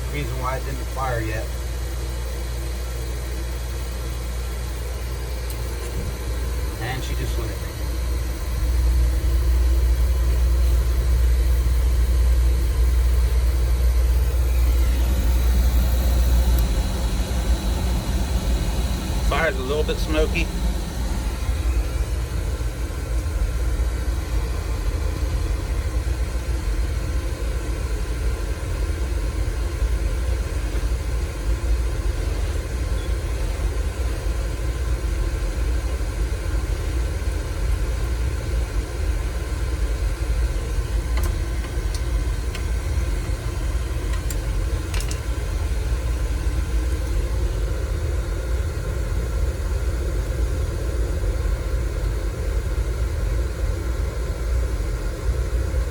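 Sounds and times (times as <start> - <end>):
oil burner rumbling: 4.8 - 55.9.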